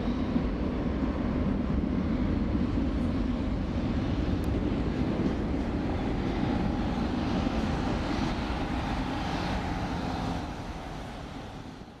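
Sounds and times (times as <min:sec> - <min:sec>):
jet engines at takeoff power: 0:00.0 - 0:12.0.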